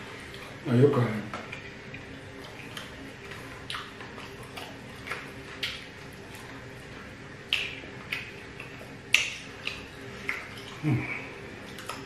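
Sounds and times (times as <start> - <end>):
low steady hum: 0.0 - 12.0
wet mouth smacks chewing: 1.5 - 6.7, 7.4 - 12.0.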